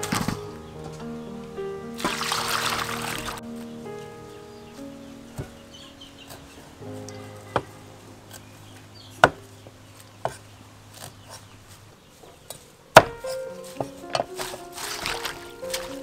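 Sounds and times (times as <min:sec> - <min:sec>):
soft background music: 0:00.0 - 0:11.5, 0:13.0 - 0:16.0.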